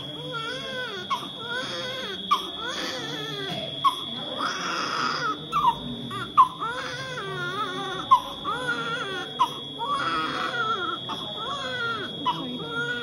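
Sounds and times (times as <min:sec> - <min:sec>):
newborn baby crying: 0:00.2 - 0:13.0.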